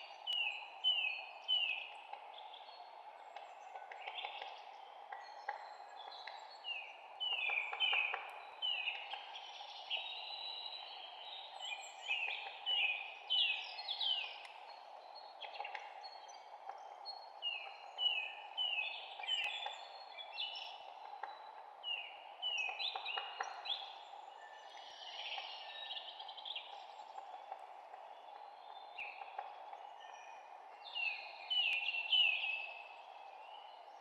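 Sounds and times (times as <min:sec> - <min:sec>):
wild birds chirping: 0:00.0 - 0:34.0.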